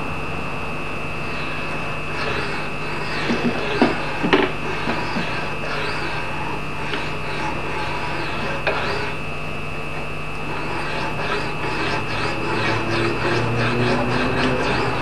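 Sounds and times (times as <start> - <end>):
hand file scraping steel: 1.3 - 9.2, 10.4 - 15.0.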